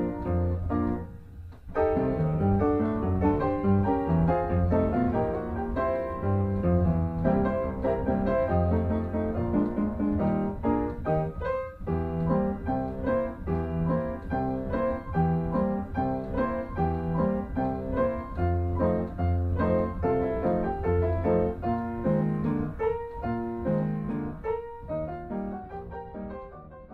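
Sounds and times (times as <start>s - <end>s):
piano music: 0.0s - 26.9s.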